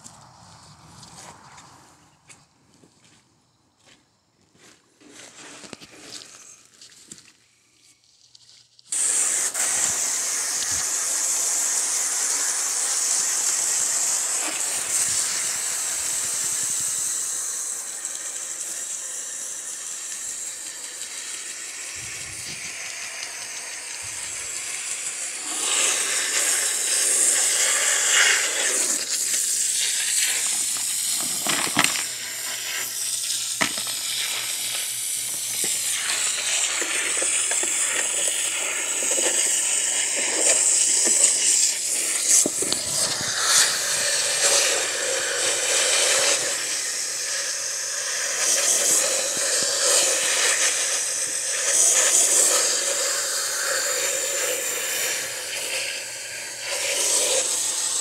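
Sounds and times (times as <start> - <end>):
hose spray hissing: 4.6 - 7.6, 8.9 - 58.0.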